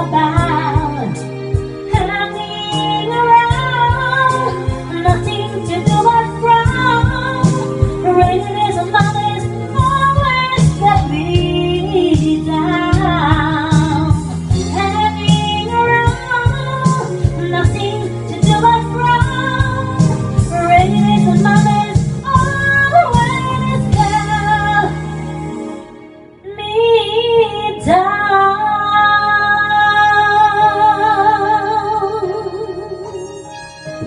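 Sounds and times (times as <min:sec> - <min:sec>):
woman singing a pop ballad: 0:00.0 - 0:25.4, 0:26.4 - 0:33.4
full band backing track: 0:00.0 - 0:34.0.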